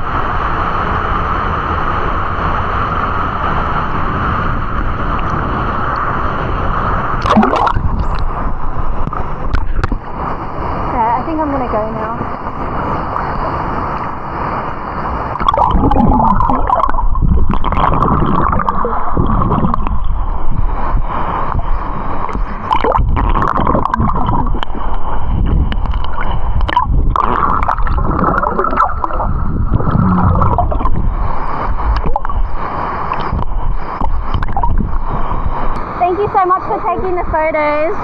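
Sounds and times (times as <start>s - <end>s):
water rushing and gurgling: 0.0s - 38.0s.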